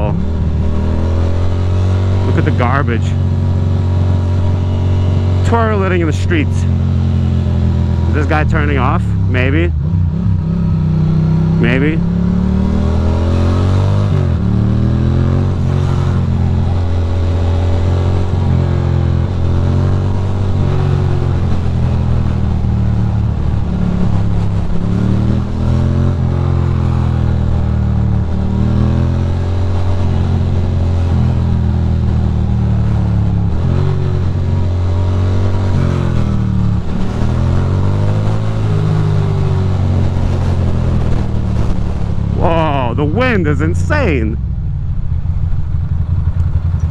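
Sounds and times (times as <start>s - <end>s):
motorcycle engine revving: 0.0s - 44.2s.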